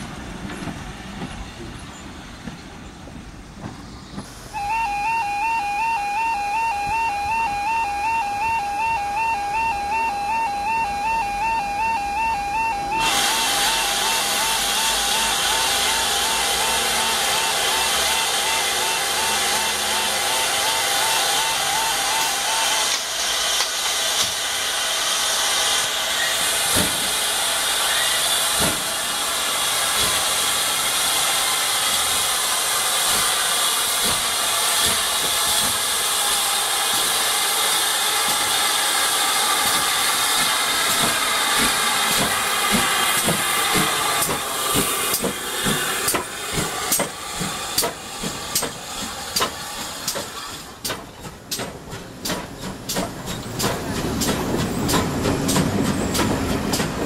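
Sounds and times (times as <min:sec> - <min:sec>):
steam locomotive hissing: 0:00.0 - 0:57.0
train wheels clanking: 0:10.7 - 0:57.0.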